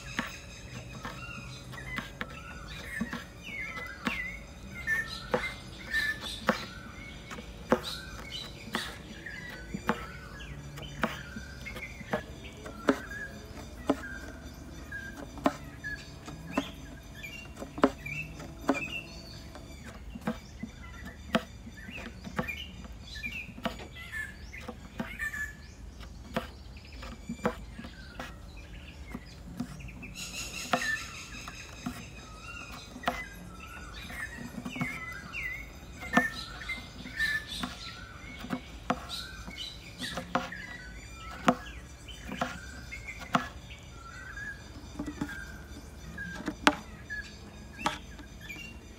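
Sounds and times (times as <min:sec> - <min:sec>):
high chirping squeaks: 0:00.0 - 0:48.9.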